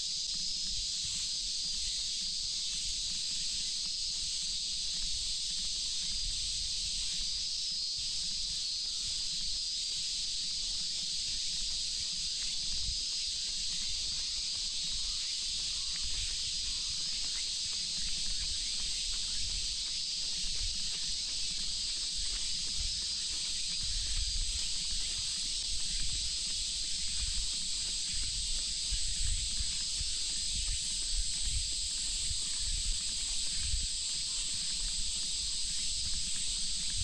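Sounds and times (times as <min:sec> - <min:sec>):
cicadas droning: 0:00.0 - 0:37.0.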